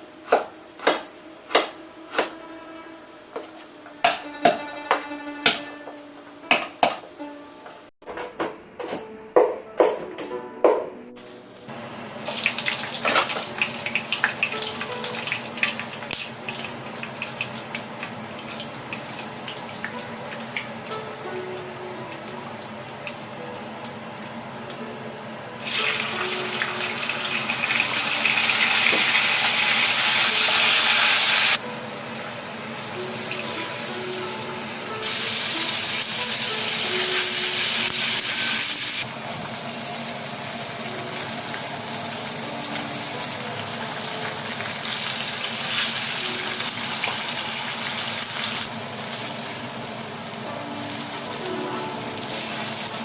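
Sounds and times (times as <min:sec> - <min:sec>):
soft background music: 0:00.0 - 0:11.7, 0:12.3 - 0:39.1, 0:40.1 - 0:53.0.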